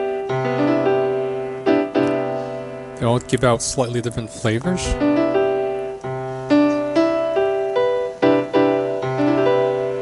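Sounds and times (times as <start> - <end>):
electronic keyboard piano chords: 0.0 - 10.0.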